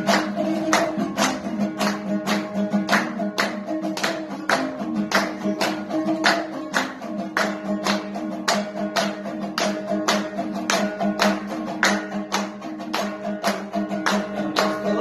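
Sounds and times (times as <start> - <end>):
long-necked lute playing folk tune: 0.0 - 15.0
people clapping in time: 0.0 - 15.0.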